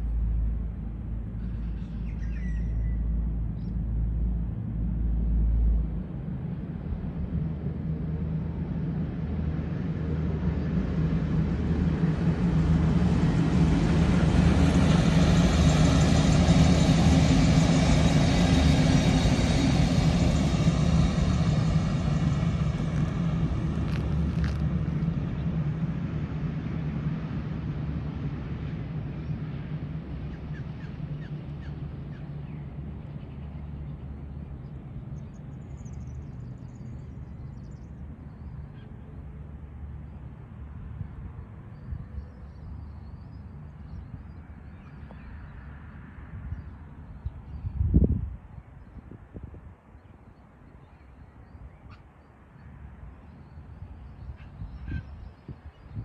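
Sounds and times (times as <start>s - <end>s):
diesel train passing: 0.0s - 47.3s.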